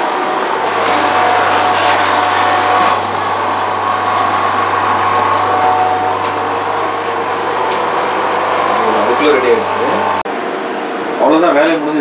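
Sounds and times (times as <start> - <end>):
lens edger grinding wheel whine: 0.0 - 10.2.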